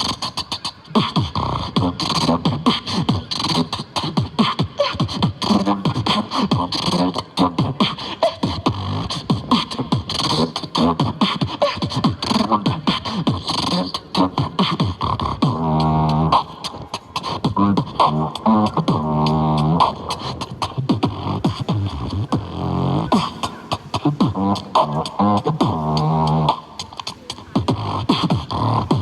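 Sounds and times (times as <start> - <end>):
beatboxing: 0.0 - 29.0.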